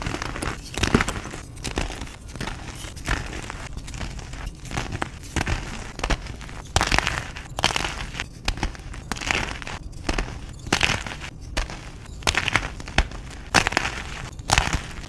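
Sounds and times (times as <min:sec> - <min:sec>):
chalk crunching and crackling: 0:00.0 - 0:15.0.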